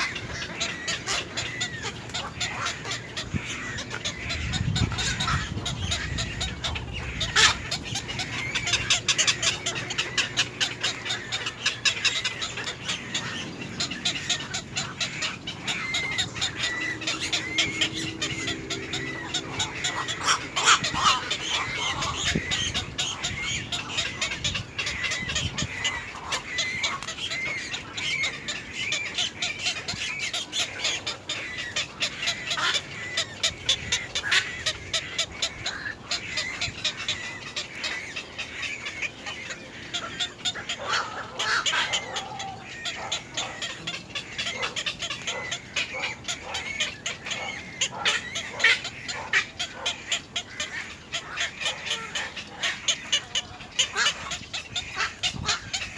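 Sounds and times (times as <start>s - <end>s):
birds chirping and clucking: 0.0s - 55.9s.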